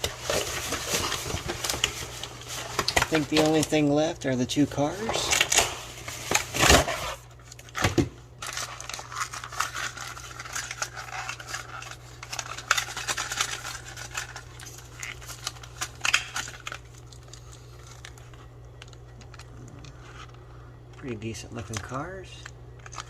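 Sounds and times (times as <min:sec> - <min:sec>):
packaging crinkling and rustling: 0:00.0 - 0:23.0
steady low hum: 0:00.0 - 0:23.0.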